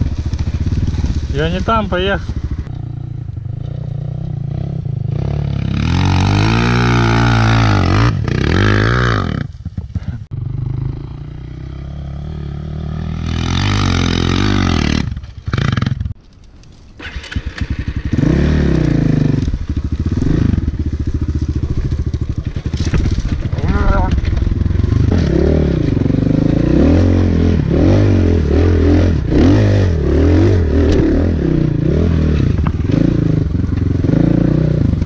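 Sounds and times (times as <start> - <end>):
dirt bike engine revving: 0.0 - 16.1, 17.0 - 35.0.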